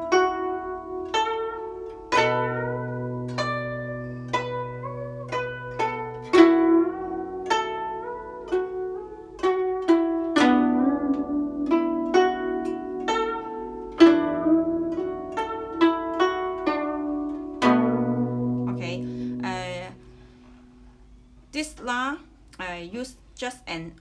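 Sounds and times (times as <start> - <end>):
plucked zither notes: 0.0 - 21.4.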